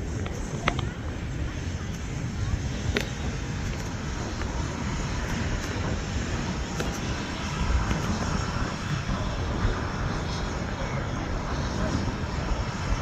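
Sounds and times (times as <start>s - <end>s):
jet engine rushing: 0.0s - 13.0s
wind buffeting microphone: 0.0s - 13.0s.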